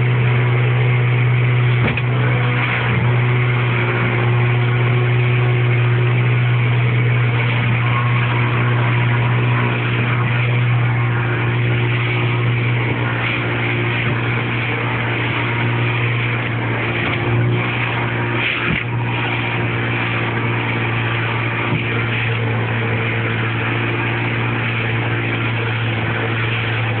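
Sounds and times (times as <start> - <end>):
motorboat engine droning: 0.0 - 27.0.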